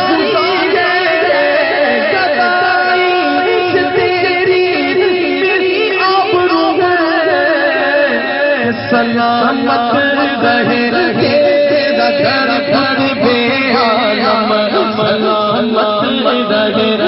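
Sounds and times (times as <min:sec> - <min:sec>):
devotional song with voice: 0:00.0 - 0:17.0.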